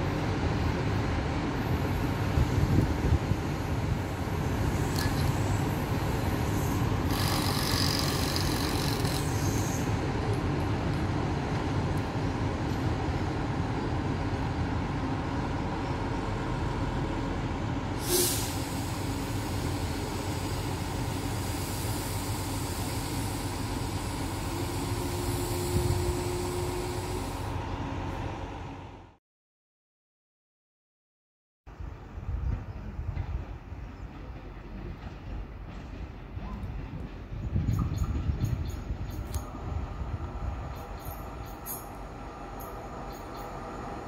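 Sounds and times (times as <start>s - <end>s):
rail vehicles rumbling: 0.0s - 29.2s, 31.7s - 44.0s.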